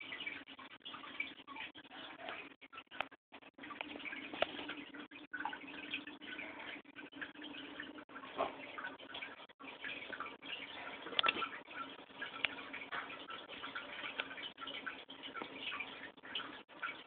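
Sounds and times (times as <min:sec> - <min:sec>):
filter motor hum: 0:00.0 - 0:17.0
water trickling and splashing: 0:00.0 - 0:17.0.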